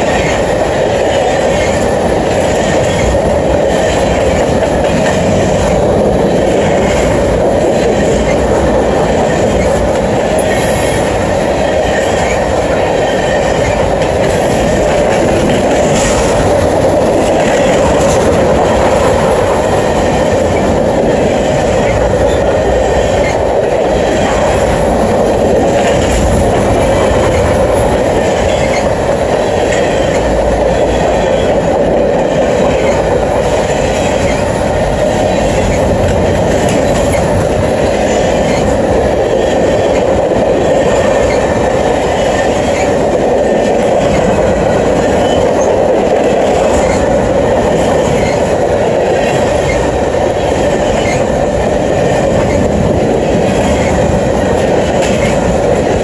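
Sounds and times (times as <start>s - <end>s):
train wheels rumbling on rail: 0.0s - 56.0s
wheels clicking over rail joints: 0.0s - 56.0s.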